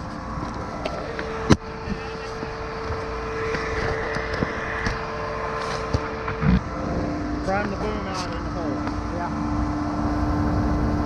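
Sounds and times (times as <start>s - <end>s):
steady whine: 0.0s - 11.0s
truck engine running: 0.0s - 11.0s.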